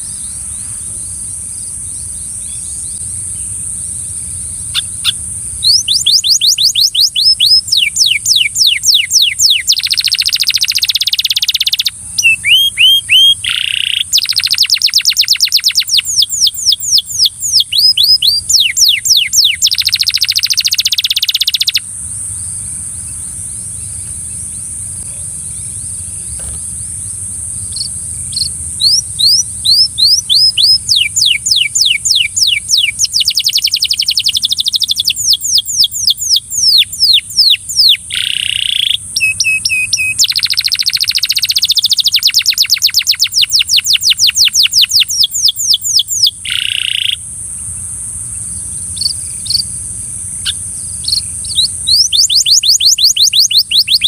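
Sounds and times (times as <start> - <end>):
canary singing trills: 0.0 - 47.3, 48.6 - 54.0.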